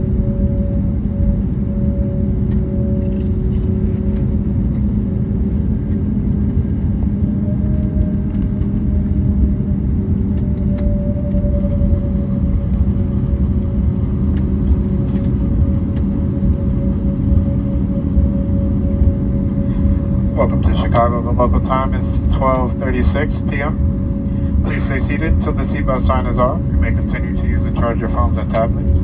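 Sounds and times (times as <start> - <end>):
jet engines humming: 0.0 - 29.0
low rumble of wheels: 0.0 - 29.0.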